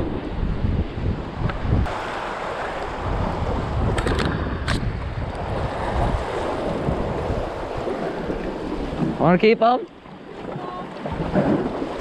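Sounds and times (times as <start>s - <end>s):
ocean waves washing against rocks: 0.0s - 12.0s
wind buffeting microphone: 0.0s - 12.0s.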